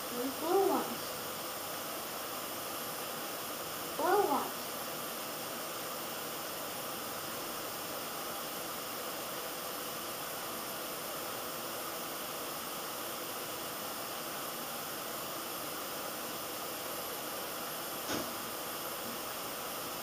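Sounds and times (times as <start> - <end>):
recording hiss: 0.0 - 20.0.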